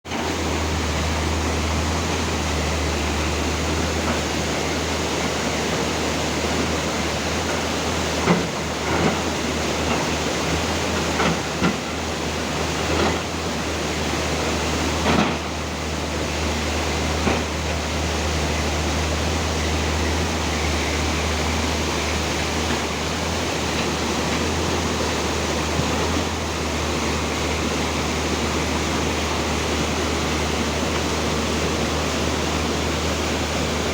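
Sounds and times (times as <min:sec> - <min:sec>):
excavator engine drone: 0:00.1 - 0:33.9
river rushing: 0:00.1 - 0:33.9.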